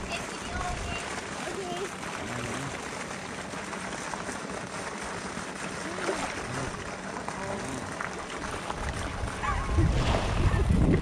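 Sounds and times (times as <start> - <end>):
pool water sloshing: 0.0 - 11.0.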